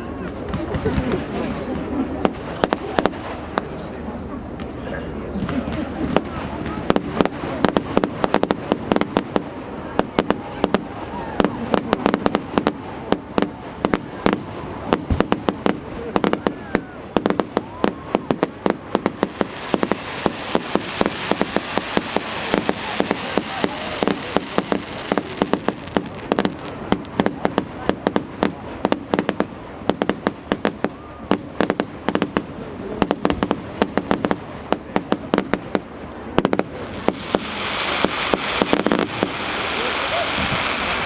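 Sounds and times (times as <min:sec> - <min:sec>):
crackling hiss: 0:00.0 - 0:41.0
fireworks bangs and cracks: 0:00.0 - 0:41.0.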